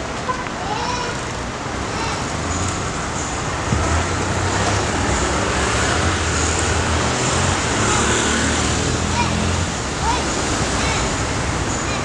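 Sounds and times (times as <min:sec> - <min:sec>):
passing road vehicles: 0:00.0 - 0:12.0.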